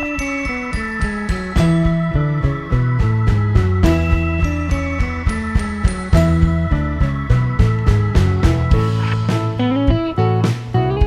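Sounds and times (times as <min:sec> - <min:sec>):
bell-like mallet percussion tune: 0:00.0 - 0:10.6
steady low bass line: 0:01.6 - 0:11.0.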